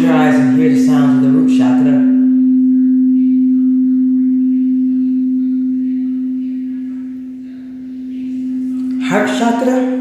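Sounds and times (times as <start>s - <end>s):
crystal singing bowl tone: 0.0s - 10.0s.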